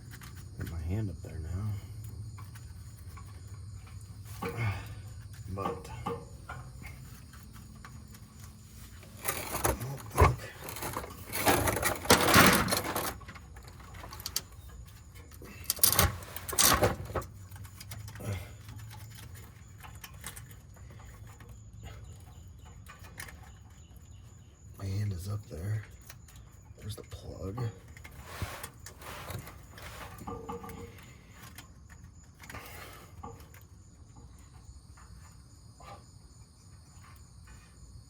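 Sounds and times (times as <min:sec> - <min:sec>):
tools scraping and clinking: 0:01.5 - 0:35.2.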